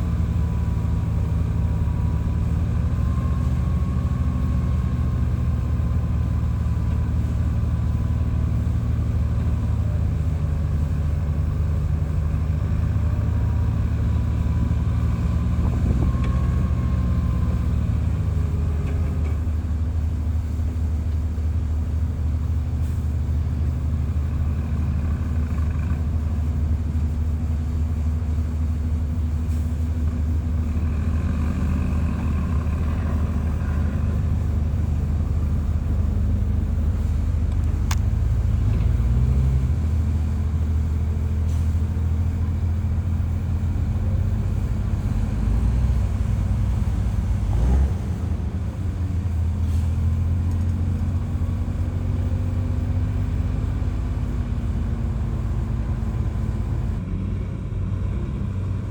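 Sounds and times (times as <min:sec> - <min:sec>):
diesel engine of heavy machinery: 0:00.0 - 0:58.9.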